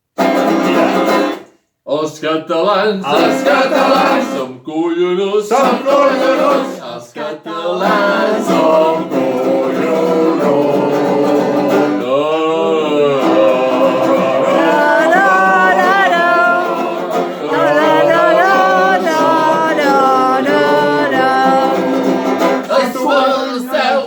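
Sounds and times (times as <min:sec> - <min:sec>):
men singing together: 0:02.6 - 0:24.0.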